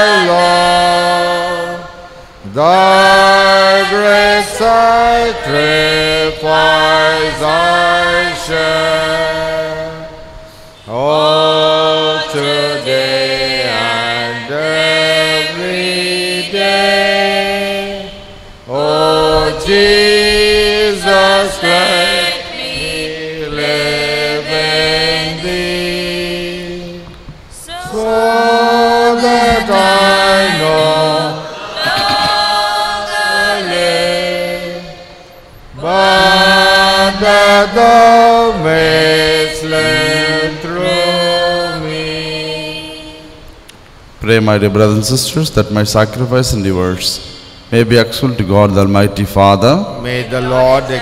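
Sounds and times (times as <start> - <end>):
hymn sung in long notes: 0.0 - 44.9, 49.6 - 51.0.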